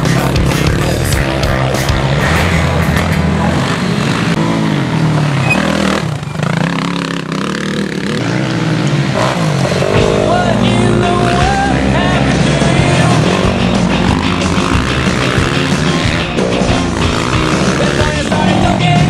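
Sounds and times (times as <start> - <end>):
quad engines revving: 0.0 - 19.0.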